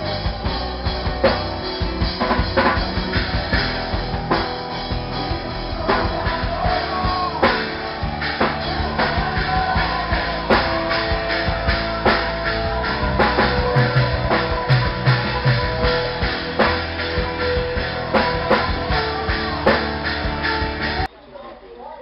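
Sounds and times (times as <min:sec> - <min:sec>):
drum kit beating: 0:00.0 - 0:21.1
electric guitars: 0:00.0 - 0:21.1
live gospel rock band: 0:00.0 - 0:21.1.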